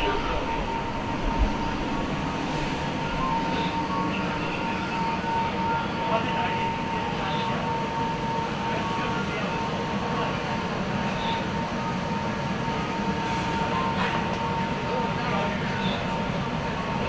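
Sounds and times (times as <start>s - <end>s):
constant train whine: 0.0s - 17.0s
train rumble and hiss: 0.0s - 17.0s.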